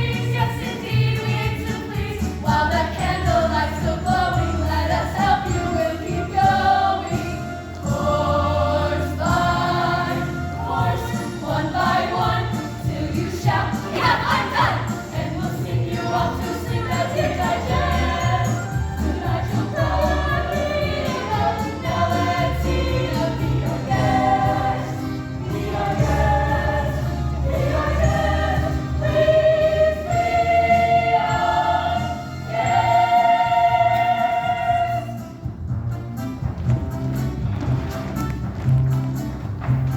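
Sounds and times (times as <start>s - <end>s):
choir singing: 0.0s - 35.3s.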